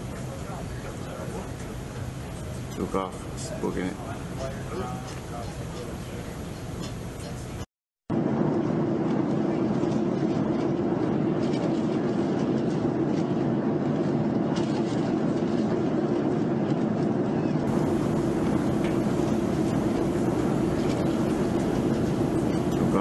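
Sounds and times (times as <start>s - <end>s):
muffled rumbling with low hum: 0.0s - 23.0s.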